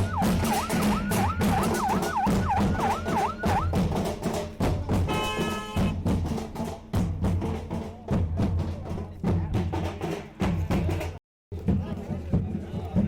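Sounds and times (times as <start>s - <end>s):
loud drum strikes: 0.0s - 12.6s.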